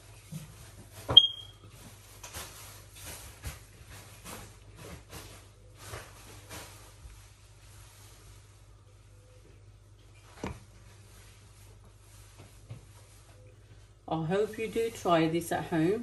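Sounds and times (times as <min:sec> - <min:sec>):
dry rustling in flour: 0:00.0 - 0:09.2, 0:10.6 - 0:16.0.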